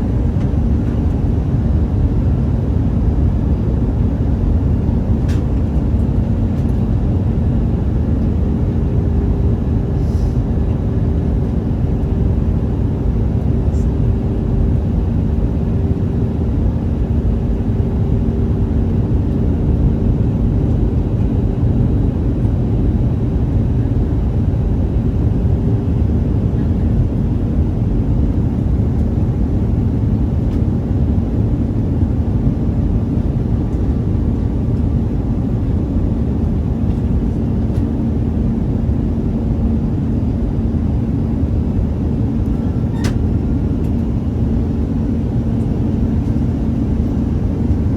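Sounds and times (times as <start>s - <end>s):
jet airliner engine drone: 0.0s - 47.9s.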